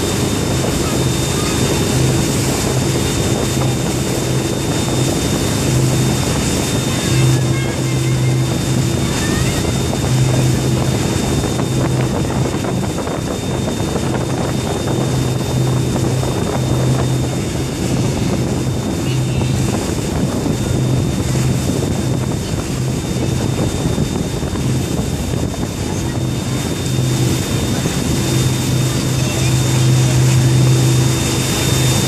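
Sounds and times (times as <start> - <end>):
boat engine humming: 0.0 - 32.0
churning wake water: 0.0 - 32.0
wind buffeting microphone: 0.0 - 32.0.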